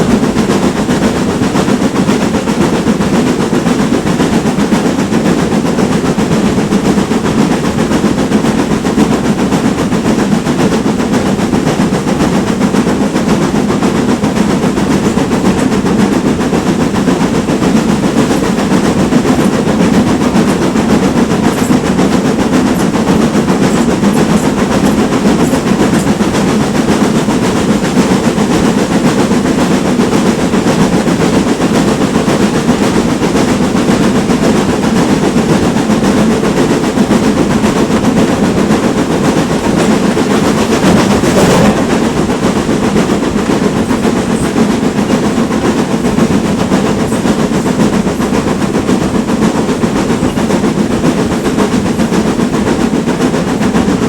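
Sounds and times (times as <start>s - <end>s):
steam train rumbling and rattling: 0.0s - 54.0s.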